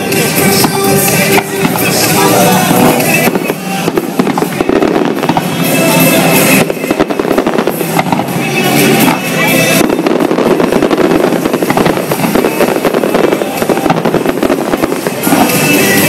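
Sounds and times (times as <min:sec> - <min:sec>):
fireworks bursting and crackling: 0:00.0 - 0:16.0.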